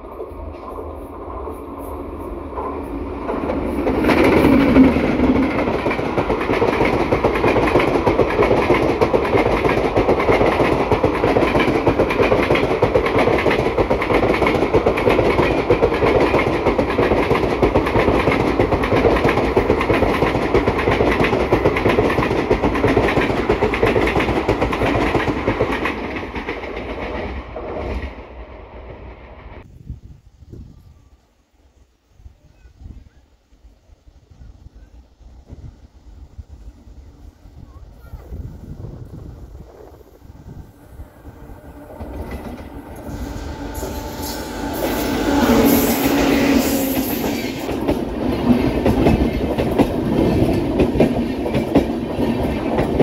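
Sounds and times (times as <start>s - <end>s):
train passing at speed: 0.0s - 53.0s.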